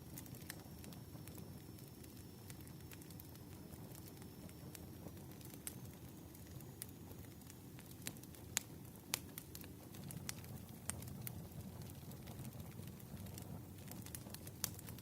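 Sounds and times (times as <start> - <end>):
wood fire crackling: 0.0 - 15.0
sharp fire pops: 2.1 - 15.0.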